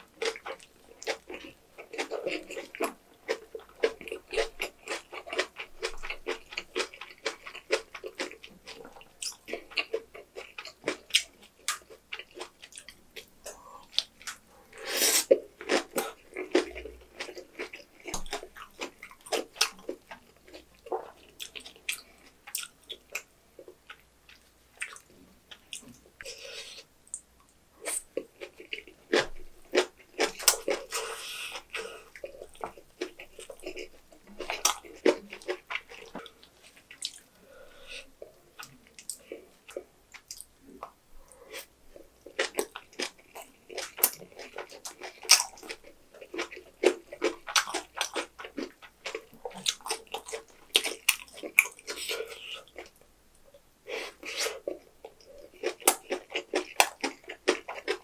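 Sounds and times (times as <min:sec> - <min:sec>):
crunchy chewing: 0:00.0 - 0:53.0, 0:53.9 - 0:58.0.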